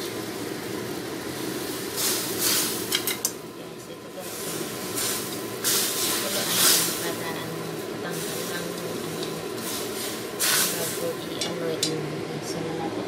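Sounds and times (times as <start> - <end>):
food sizzling in a wok: 0.0 - 11.9.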